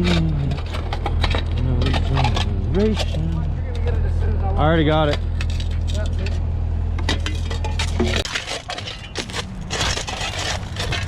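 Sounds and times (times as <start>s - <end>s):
concrete chunks scraping and knocking: 0.0s - 11.0s
engine running: 0.0s - 11.0s.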